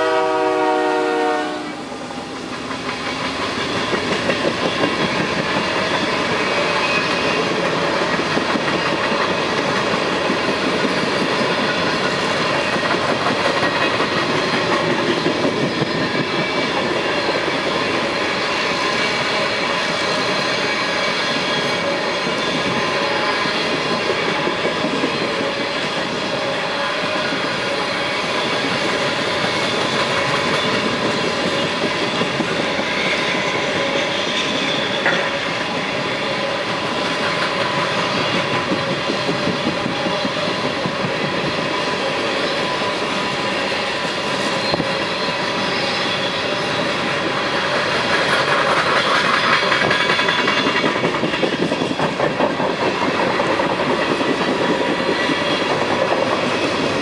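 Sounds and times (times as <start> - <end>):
steel wheels clattering on rails: 2.2 - 57.0.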